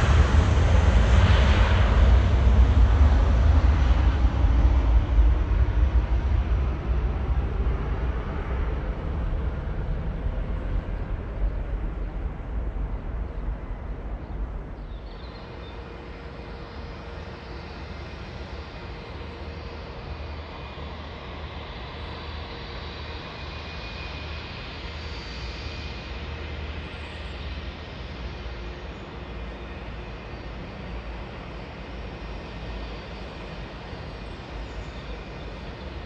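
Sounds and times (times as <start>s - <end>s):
jet engines rumbling and whining: 0.0s - 36.0s.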